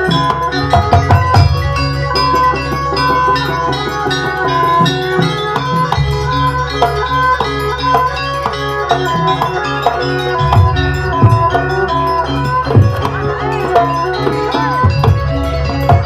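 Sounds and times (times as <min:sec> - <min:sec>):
drum strokes: 0:00.0 - 0:16.0
struck ringing notes: 0:00.0 - 0:16.0.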